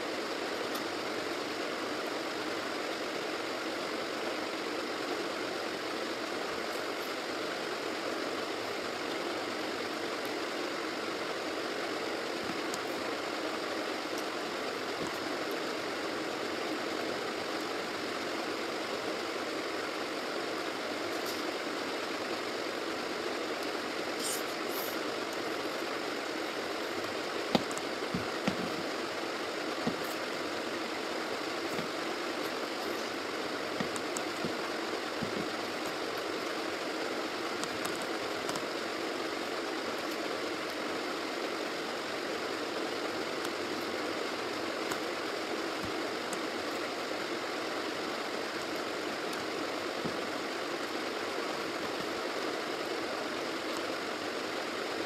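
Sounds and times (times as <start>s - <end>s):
background hiss: 0.0s - 55.0s.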